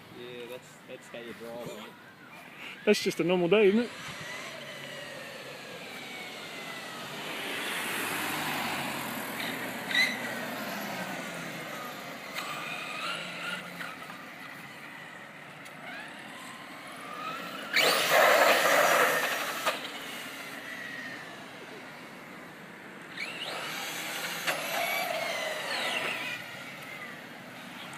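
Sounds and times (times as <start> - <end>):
electric toy truck motor whine: 2.7 - 27.9.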